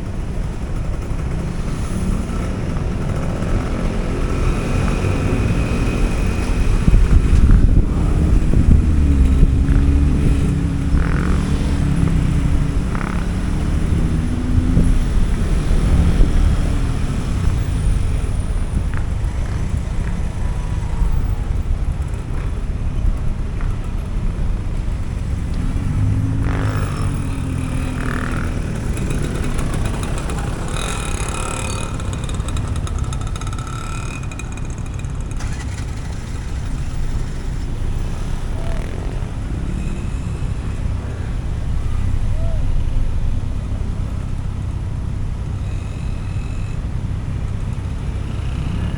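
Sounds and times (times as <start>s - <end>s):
motorcycle engine revving: 0.0s - 48.9s
traffic: 0.0s - 48.9s.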